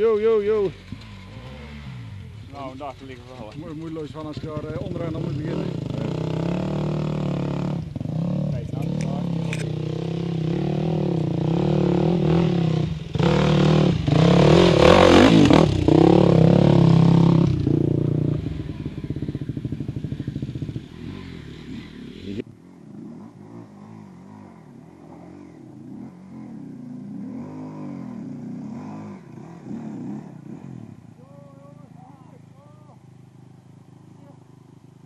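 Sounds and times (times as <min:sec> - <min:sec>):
distant motorcycle engine: 0:00.0 - 0:35.0
motorcycle engine revving: 0:00.0 - 0:35.0.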